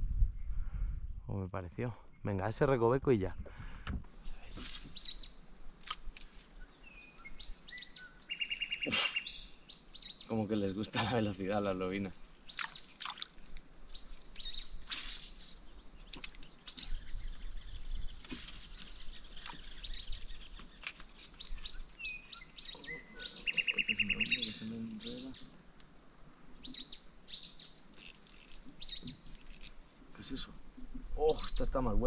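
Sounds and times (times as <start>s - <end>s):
birds chirping: 1.8s - 32.0s.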